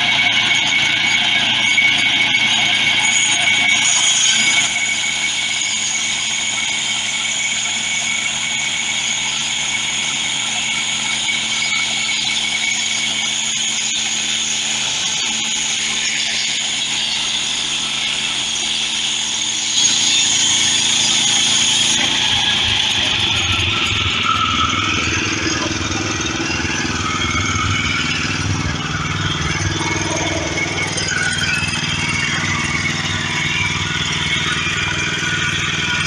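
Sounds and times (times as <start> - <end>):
band sawmill cutting log: 0.0 - 36.0.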